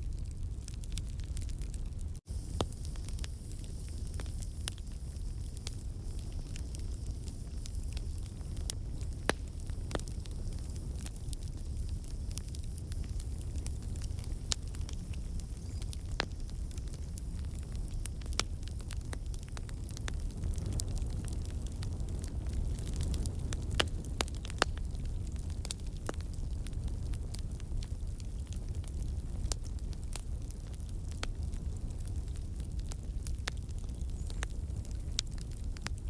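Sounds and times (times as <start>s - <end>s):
campfire flame rumbling: 0.0s - 36.0s
logs crackling and popping: 0.0s - 36.0s.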